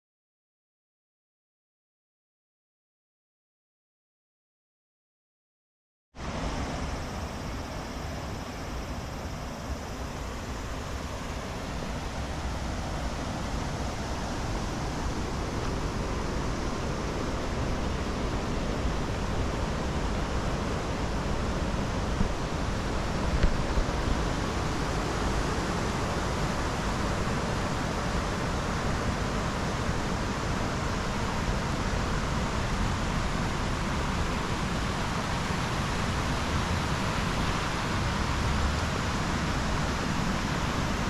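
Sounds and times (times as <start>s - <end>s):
waterfall rushing: 6.2s - 41.0s.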